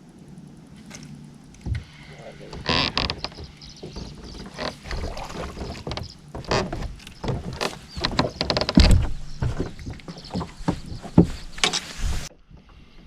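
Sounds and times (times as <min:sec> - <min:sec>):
fishing gear knocking and rattling: 0:00.8 - 0:12.2
heavy low thump: 0:01.6 - 0:12.2.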